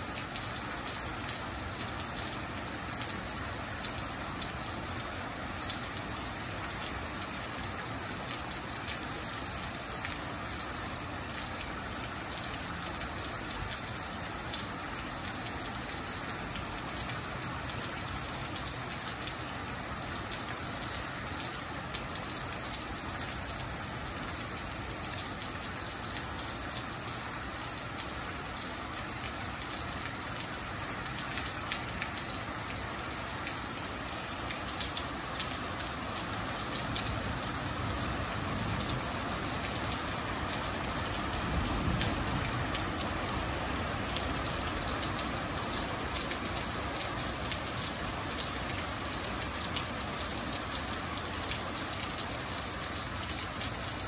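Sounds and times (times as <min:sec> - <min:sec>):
rain falling on a porch: 0:00.0 - 0:54.0.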